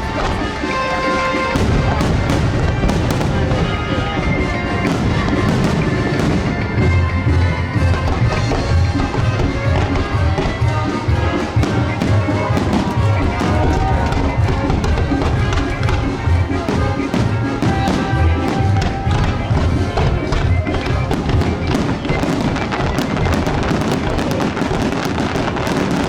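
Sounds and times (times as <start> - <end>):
fireworks bangs and crackling: 0.0 - 26.0
music playing: 0.0 - 26.0.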